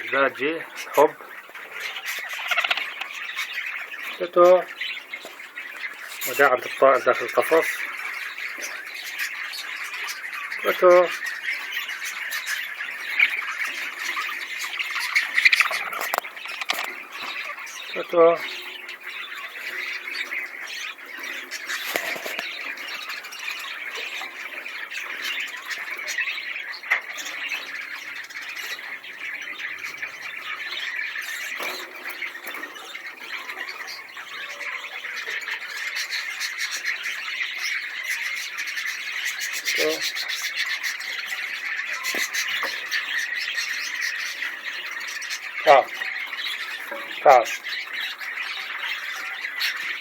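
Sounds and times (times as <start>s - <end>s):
budgerigar chattering and warbling: 0.0s - 50.0s.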